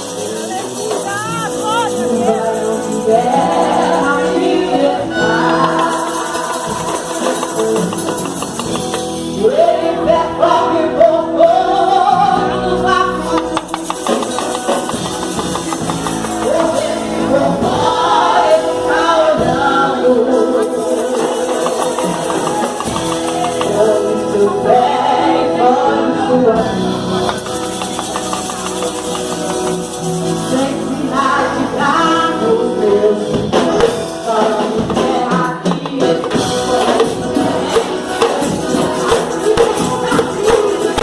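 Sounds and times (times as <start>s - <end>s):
percussion steady beat: 0.0s - 9.7s, 12.9s - 25.2s, 26.8s - 32.0s, 33.1s - 41.0s
voices singing gospel song: 0.0s - 41.0s.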